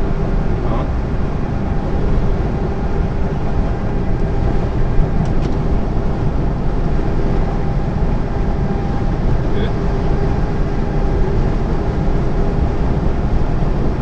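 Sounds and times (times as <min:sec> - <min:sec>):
lorry cab drone at speed: 0:00.0 - 0:14.0.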